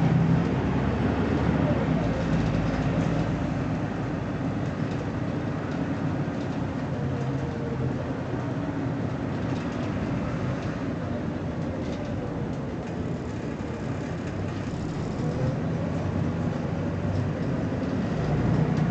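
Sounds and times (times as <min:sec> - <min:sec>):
bus diesel engine droning: 0:00.0 - 0:18.9
faint engine whine: 0:00.0 - 0:18.9.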